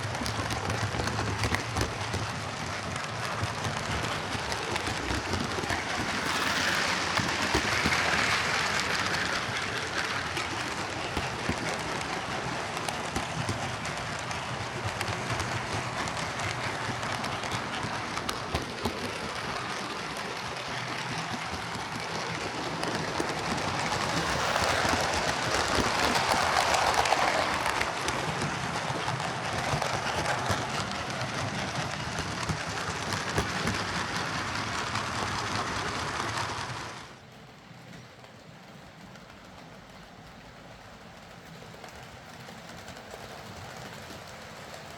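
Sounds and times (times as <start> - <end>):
model train whirring on track: 0.0 - 44.9.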